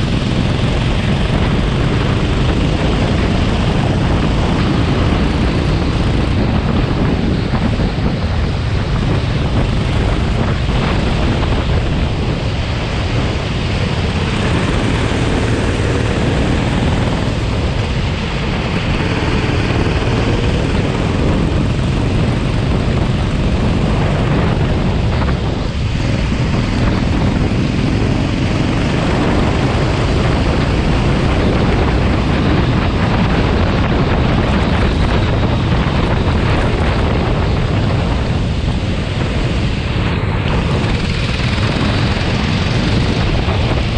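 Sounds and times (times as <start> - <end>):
kart engine: 0.0 - 43.9
wind noise on microphone: 0.0 - 43.9.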